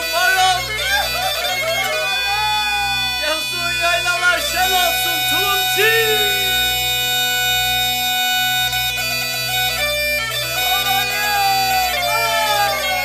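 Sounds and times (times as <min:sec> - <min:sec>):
bagpipe-like drone music: 0:00.0 - 0:13.0.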